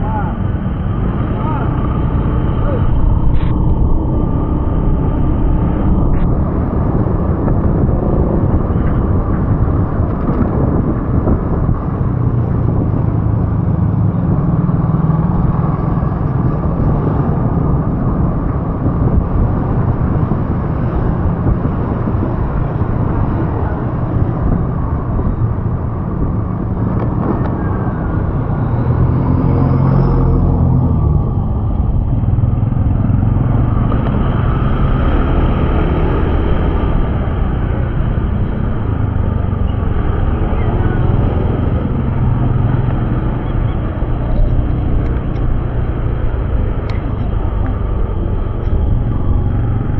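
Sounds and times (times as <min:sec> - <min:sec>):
vehicle engine and road noise: 0:00.0 - 0:49.9.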